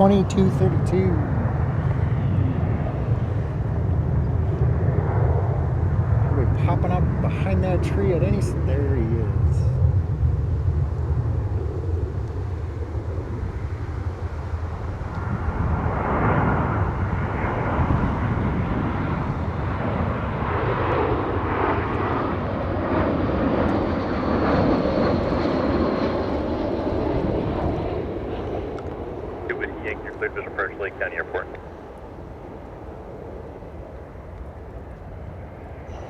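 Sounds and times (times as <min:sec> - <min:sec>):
jet airliner rushing noise: 0:00.0 - 0:36.0.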